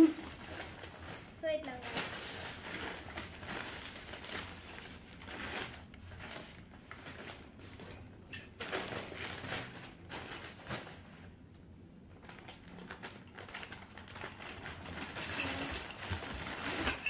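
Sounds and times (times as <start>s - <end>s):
paper bags rustling: 0.0s - 11.4s, 12.1s - 17.0s.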